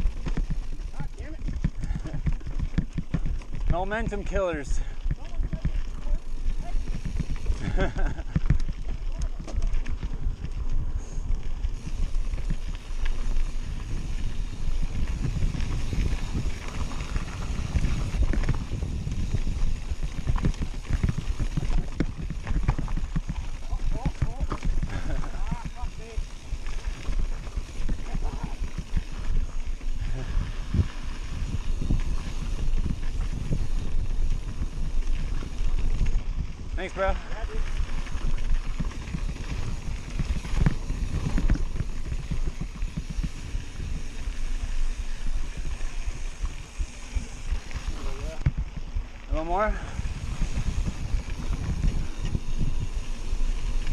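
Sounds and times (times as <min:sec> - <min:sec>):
bike rattling and knocking: 0:00.0 - 0:53.9
wind rumble on microphone: 0:00.0 - 0:53.9.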